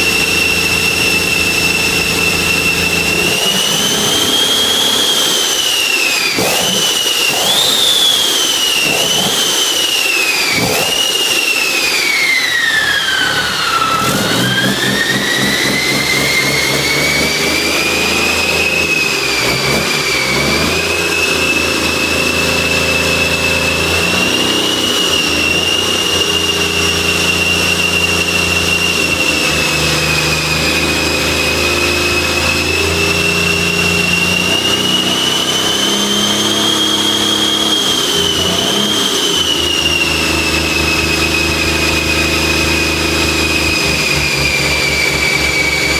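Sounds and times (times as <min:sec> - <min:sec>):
diesel engine revving: 0:00.0 - 0:05.4, 0:06.3 - 0:09.7, 0:10.5 - 0:11.4, 0:13.1 - 0:45.9
high engine whine: 0:00.0 - 0:45.9.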